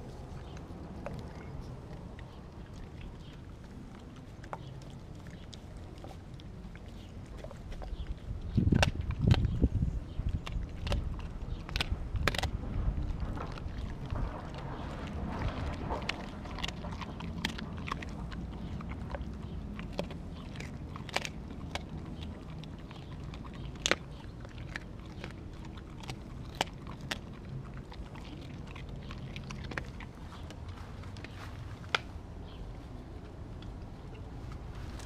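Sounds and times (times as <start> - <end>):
dog chewing raw meat: 0.0 - 35.0
low background noise: 0.0 - 35.0.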